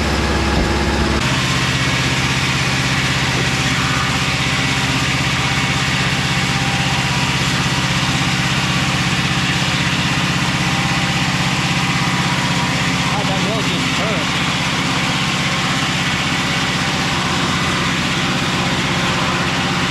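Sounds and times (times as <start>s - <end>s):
sawmill engine running: 0.0s - 19.9s.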